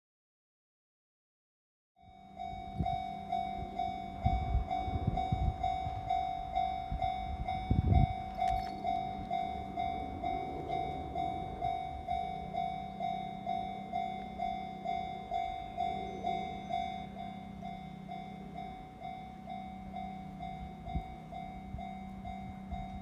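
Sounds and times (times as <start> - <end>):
level crossing electronic bell: 2.1 - 23.0.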